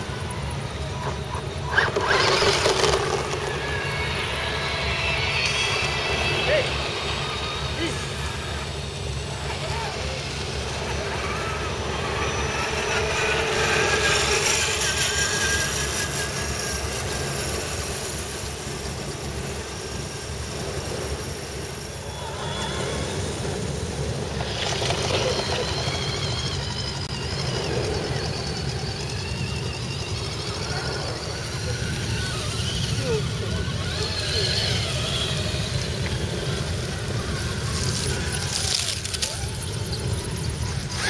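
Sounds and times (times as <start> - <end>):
distant voices: 0.0 - 41.0
rc truck motors whining: 0.0 - 41.0.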